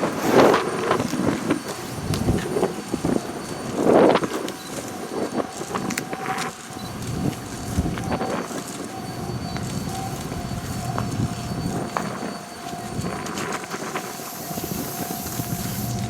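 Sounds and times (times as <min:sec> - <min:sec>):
clicks of wheels on rails: 0:00.0 - 0:16.0
steady high tone: 0:00.0 - 0:16.0
train rumbling on rails: 0:00.0 - 0:16.0.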